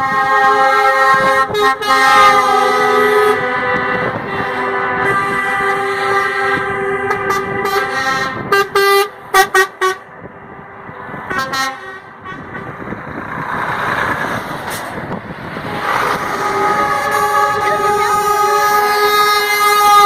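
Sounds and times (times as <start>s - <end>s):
truck air horns: 0.0s - 13.0s, 14.7s - 20.0s
steady vehicle noise: 0.0s - 20.0s.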